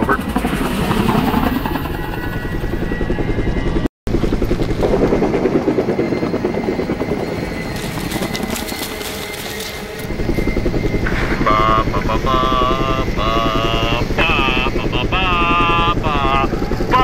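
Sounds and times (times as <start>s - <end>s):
helicopter rotors thudding: 0.0s - 17.0s.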